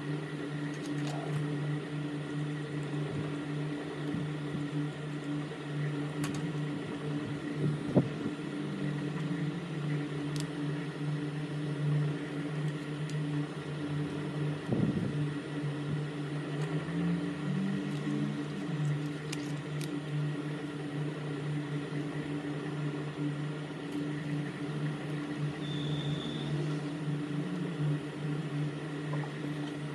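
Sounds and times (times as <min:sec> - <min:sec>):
low machine hum: 0:00.0 - 0:29.9.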